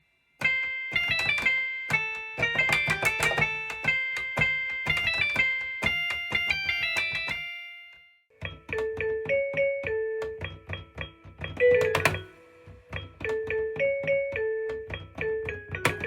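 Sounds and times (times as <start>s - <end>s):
keyboard playing a melody: 0.4s - 16.0s.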